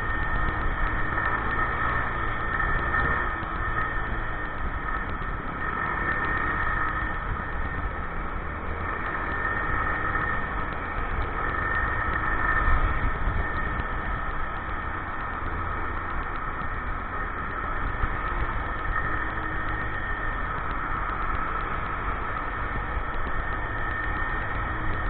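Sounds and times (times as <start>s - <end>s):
motorcycle engine low rumble: 0.0s - 25.0s
steady high whine: 0.0s - 25.0s.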